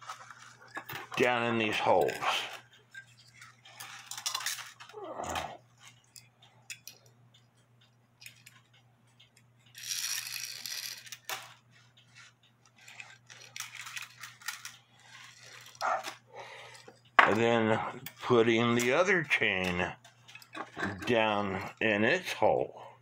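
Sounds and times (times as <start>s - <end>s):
metal chain rattling and clicking: 0.0s - 7.1s, 8.2s - 22.0s
faint steady hum: 0.0s - 23.0s.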